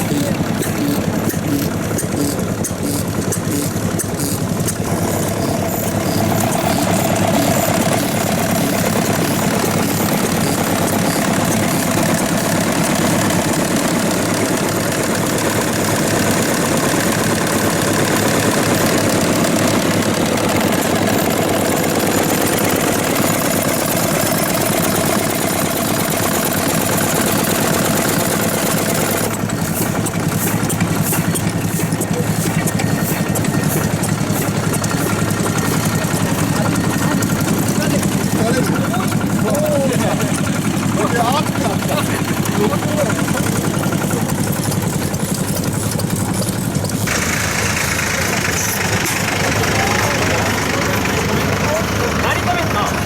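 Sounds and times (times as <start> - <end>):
stationary farm engines chugging: 0.0 - 53.0.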